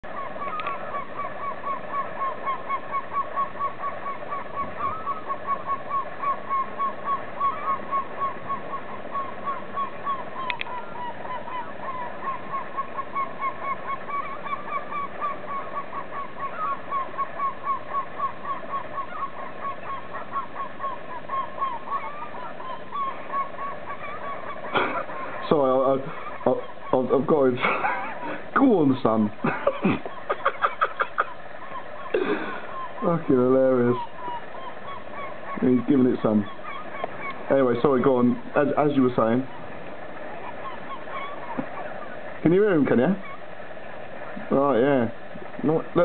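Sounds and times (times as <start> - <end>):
gull honking calls: 0.0 - 46.0.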